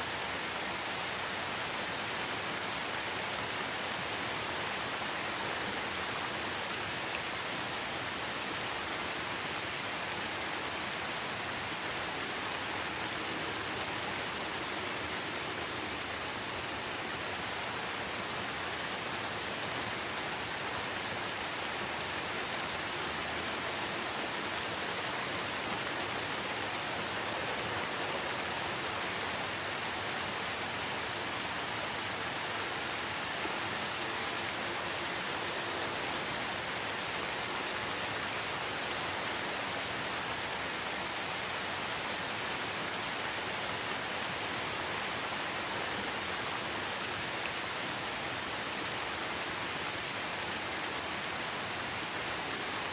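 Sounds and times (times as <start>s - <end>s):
steady rain on foliage: 0.0s - 52.9s.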